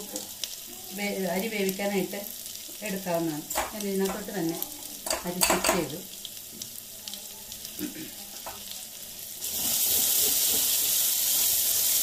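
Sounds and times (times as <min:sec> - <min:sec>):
onion paste sizzling in pan: 0:00.0 - 0:12.0.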